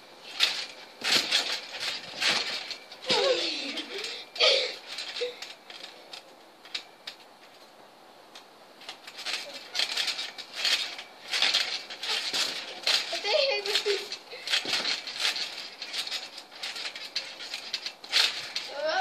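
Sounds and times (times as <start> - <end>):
trampoline creaks and rattles: 0.0 - 19.0.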